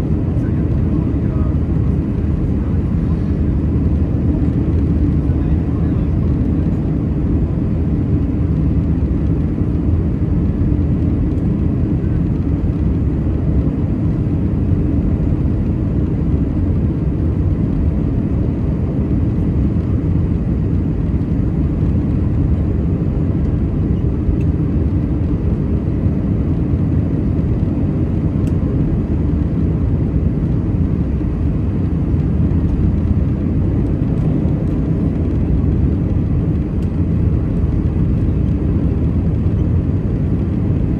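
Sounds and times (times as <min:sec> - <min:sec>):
airplane cabin roar: 0:00.0 - 0:40.9.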